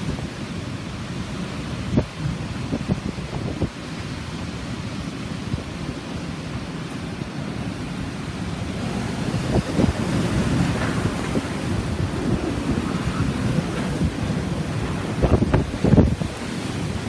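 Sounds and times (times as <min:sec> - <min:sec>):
heavy rain: 0:00.0 - 0:17.0
strong wind gusting: 0:00.0 - 0:17.0
wind buffeting microphone: 0:00.0 - 0:17.0.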